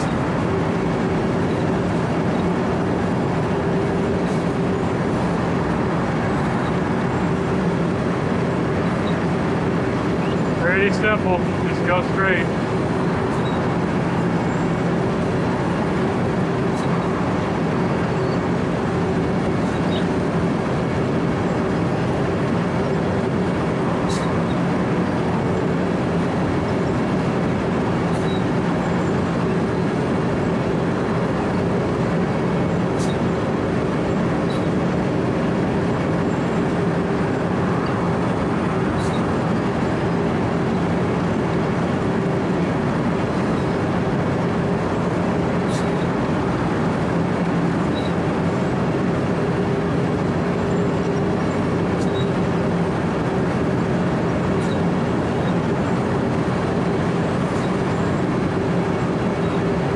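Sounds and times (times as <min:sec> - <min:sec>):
milling machine grinding asphalt: 0:00.0 - 0:59.9.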